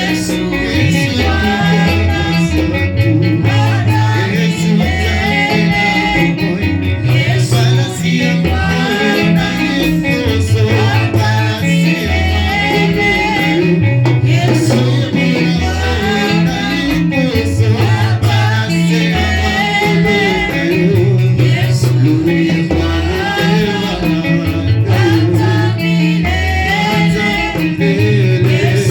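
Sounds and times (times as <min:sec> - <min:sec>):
band with guitar and bass: 0:00.0 - 0:28.9
person singing: 0:00.0 - 0:28.9.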